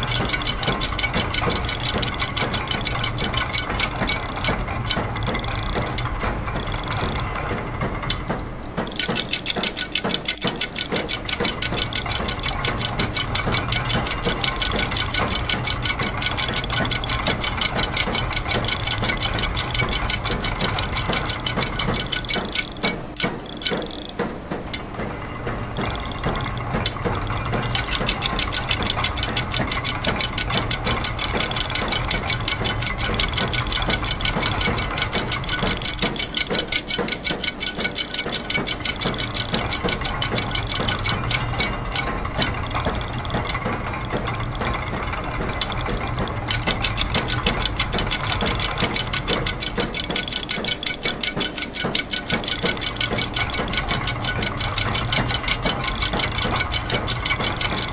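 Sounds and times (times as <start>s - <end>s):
rapid mechanical clicks: 0.0s - 57.9s.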